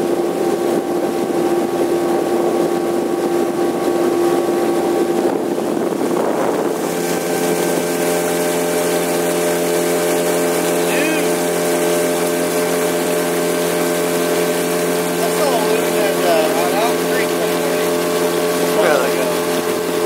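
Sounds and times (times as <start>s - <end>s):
boat motor running: 0.0s - 20.0s.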